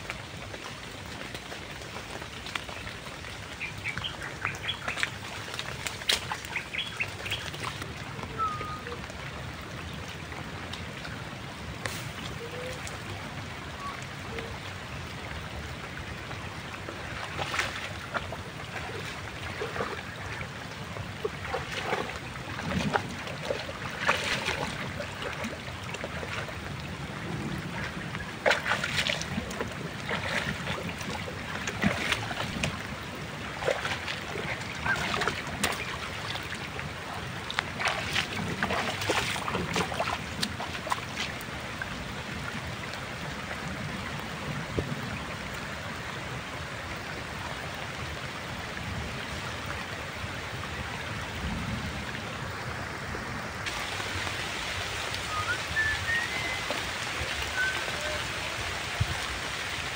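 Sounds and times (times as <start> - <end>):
flowing river water: 0.0 - 59.9
rain: 0.0 - 59.9
water splashes: 0.0 - 59.9.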